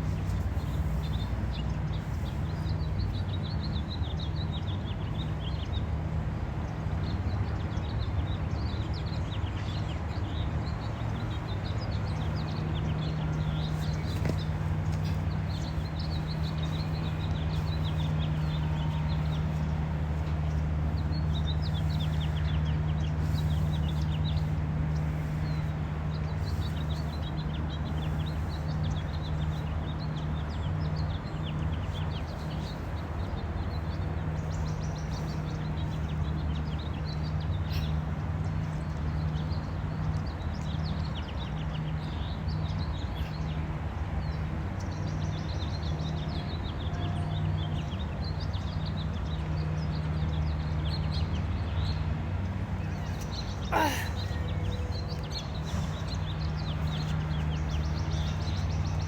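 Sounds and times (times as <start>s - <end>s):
small birds chirping: 6.6s - 59.0s.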